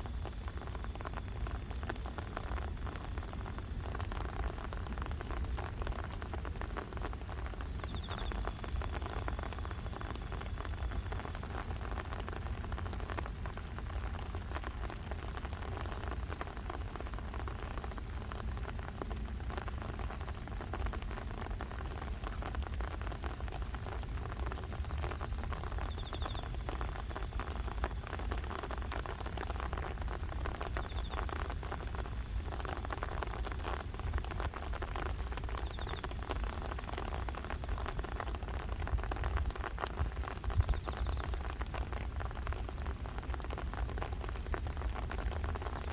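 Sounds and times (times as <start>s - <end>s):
cricket pulsed chirps: 0.0s - 45.9s.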